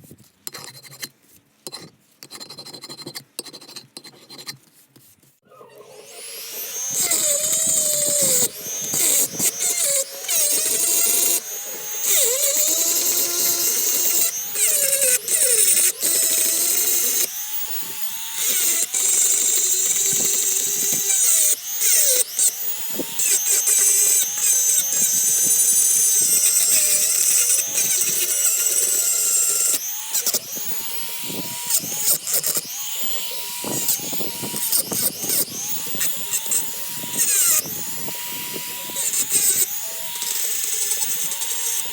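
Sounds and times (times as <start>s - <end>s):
power tool grinding metal: 5.5s - 41.9s.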